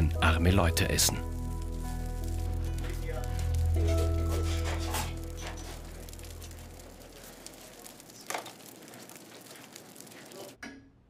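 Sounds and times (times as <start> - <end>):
wood fire crackling: 0.0 - 10.6.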